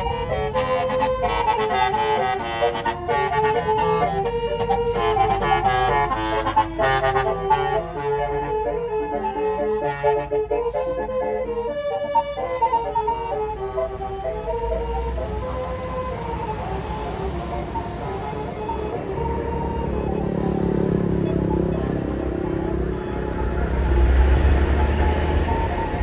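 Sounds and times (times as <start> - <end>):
bus engine rumble: 0.0 - 26.0
multi-tone bus horn melody: 0.0 - 26.0.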